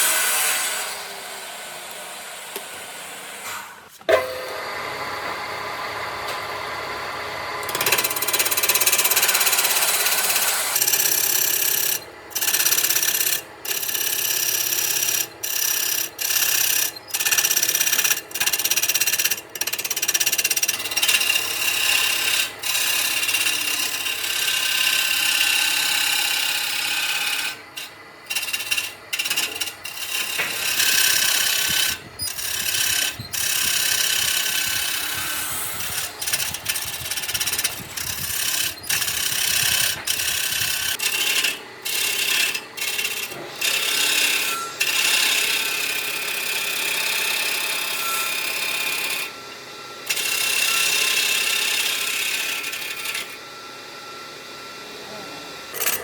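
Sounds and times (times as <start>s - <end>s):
handheld power tool on wood: 0.0s - 56.0s.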